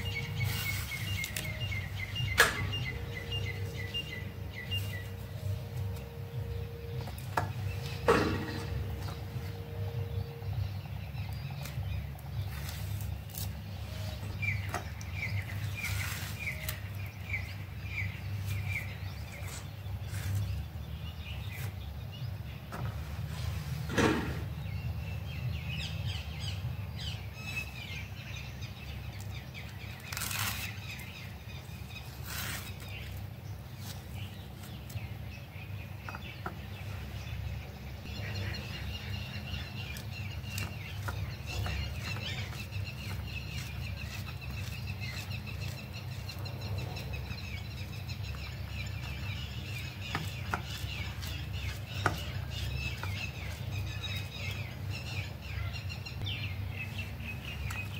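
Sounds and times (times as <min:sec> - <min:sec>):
birds chirping: 0:00.0 - 0:57.9
steady low hum: 0:00.0 - 0:57.9.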